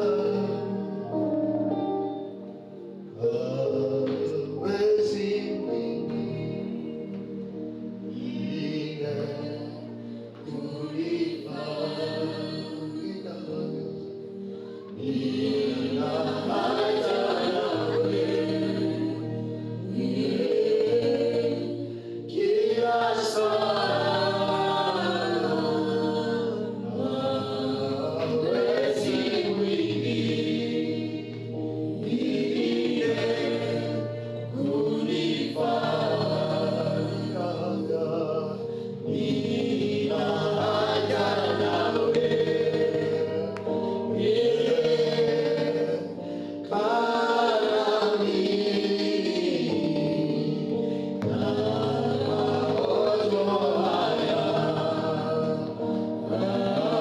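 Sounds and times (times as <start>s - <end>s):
group singing gospel song: 0.0s - 57.0s
held accompaniment chords: 0.0s - 57.0s.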